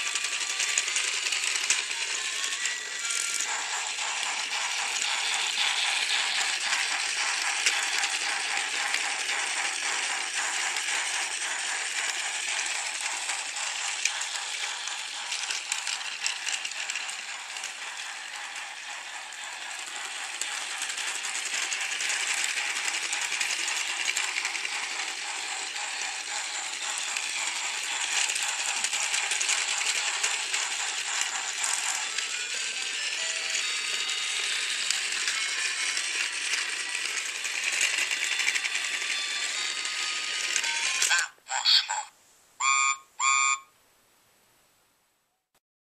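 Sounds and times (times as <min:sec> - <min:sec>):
toy train motor whirring: 0:00.0 - 0:43.7.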